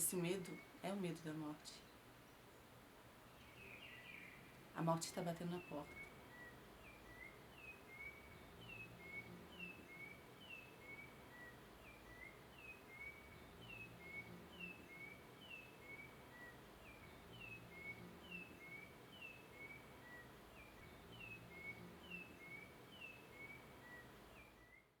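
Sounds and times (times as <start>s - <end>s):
faint bird chirping: 0.0s - 25.0s
low background hum: 0.0s - 25.0s.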